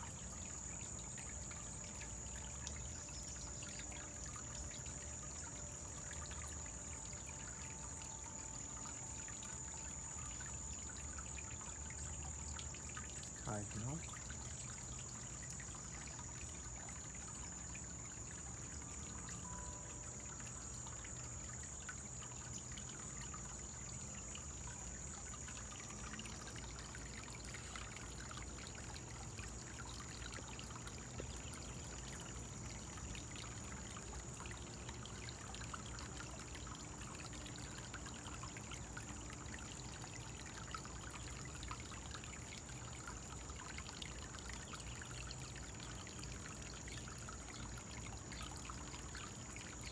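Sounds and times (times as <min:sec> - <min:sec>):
waterfall trickling: 0:00.0 - 0:49.9.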